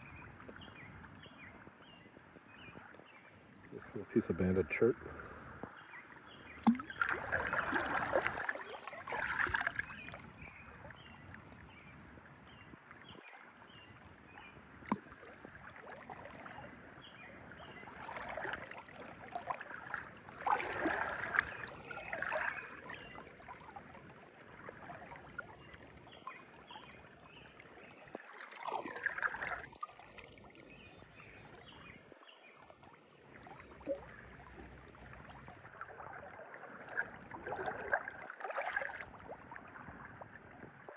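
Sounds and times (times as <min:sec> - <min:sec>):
kayak paddle splashing in water: 0:05.8 - 0:11.9, 0:12.5 - 0:40.3.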